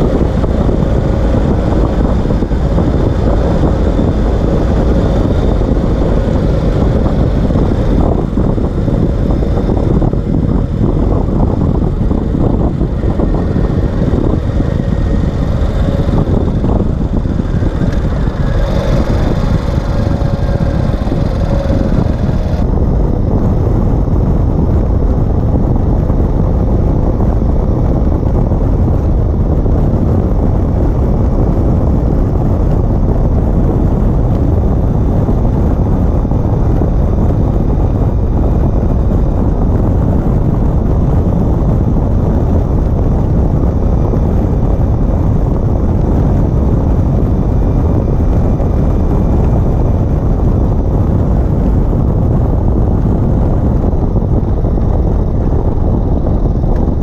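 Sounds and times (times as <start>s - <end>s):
motorcycle engine rumble: 0.0s - 57.0s
wind noise: 0.0s - 57.0s.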